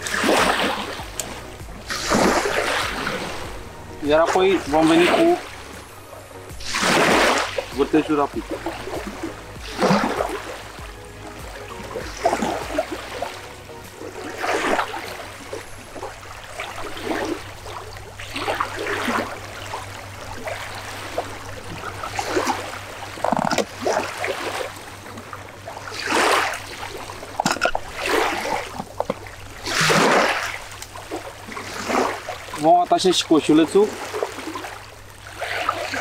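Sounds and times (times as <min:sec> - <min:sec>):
small waves splashing on sand: 0:00.0 - 0:36.0.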